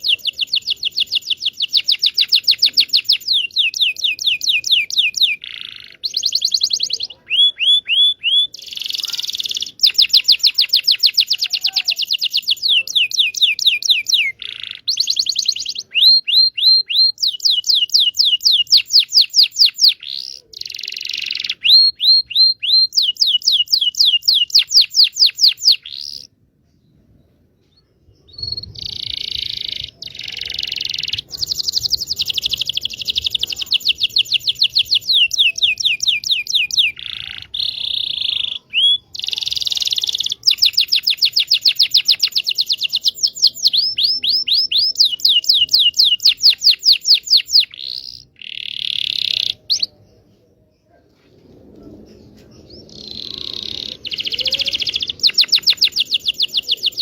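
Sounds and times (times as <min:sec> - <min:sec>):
canary singing trills: 0:00.0 - 0:26.3, 0:28.2 - 0:51.0, 0:52.1 - 0:57.0.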